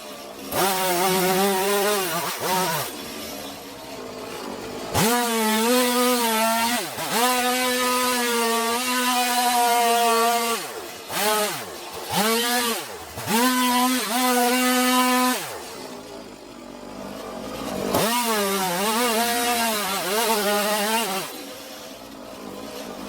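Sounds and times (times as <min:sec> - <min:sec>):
chainsaw revving and cutting wood: 0:00.0 - 0:23.0.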